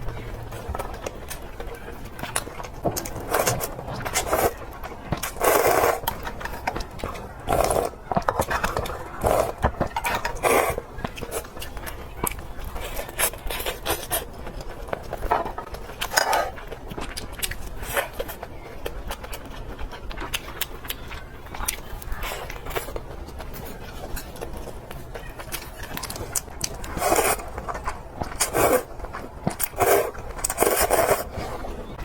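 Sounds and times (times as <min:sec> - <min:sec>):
chewing and mouth noises: 0:00.0 - 0:32.0.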